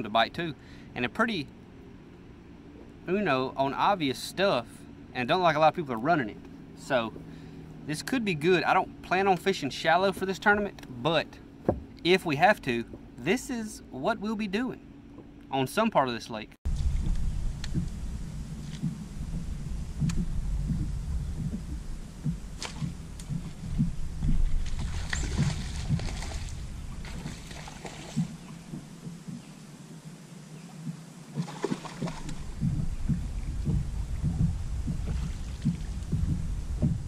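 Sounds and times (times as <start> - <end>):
water and wind against boat hull: 0.0 - 37.0.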